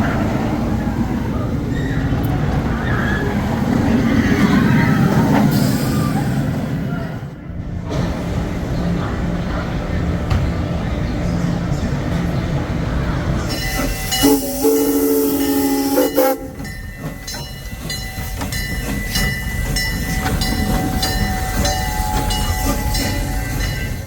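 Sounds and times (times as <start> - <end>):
roller coaster wheels clattering: 0.0 - 24.0.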